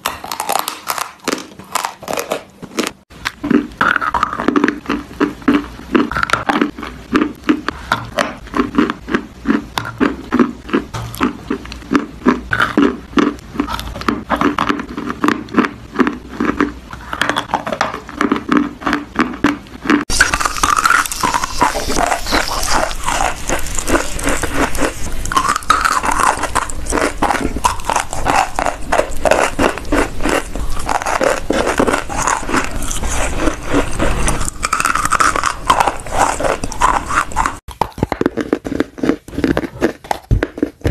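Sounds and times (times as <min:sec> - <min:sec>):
chewing crunchy clay: 0:00.0 - 0:40.9.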